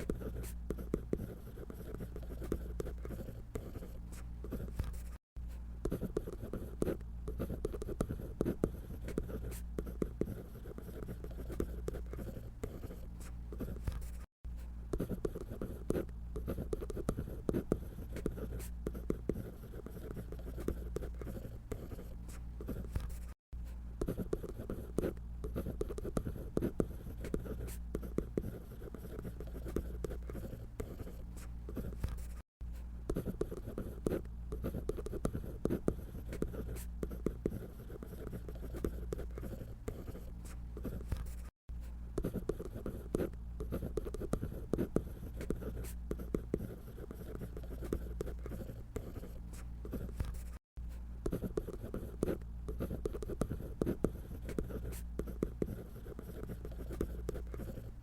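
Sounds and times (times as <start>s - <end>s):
drawing tool scratching paper: 0.0s - 5.2s, 5.8s - 14.3s, 14.9s - 23.4s, 24.0s - 32.4s, 33.1s - 41.6s, 42.2s - 50.6s, 51.3s - 58.0s.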